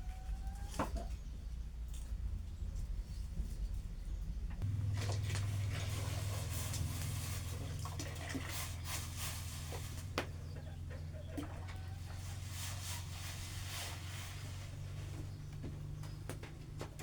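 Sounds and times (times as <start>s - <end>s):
steady low hum: 1.2s - 17.0s.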